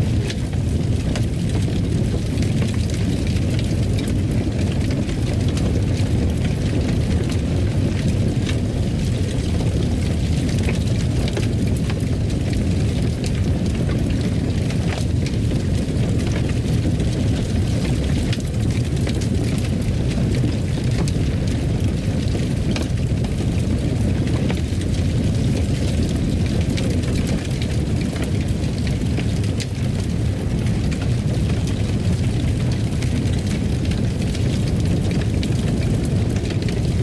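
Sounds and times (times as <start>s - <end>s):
fire crackling and popping: 0.0s - 37.0s
wood fire roaring: 0.0s - 37.0s.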